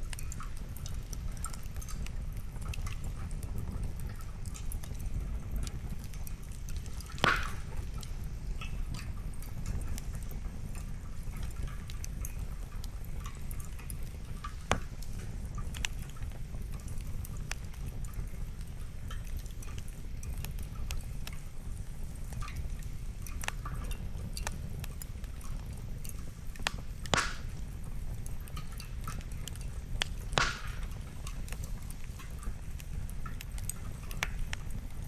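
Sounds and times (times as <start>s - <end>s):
campfire crackling: 0.0s - 35.0s
low fire rumble: 0.0s - 35.0s
wood snapping in fire: 0.0s - 35.0s.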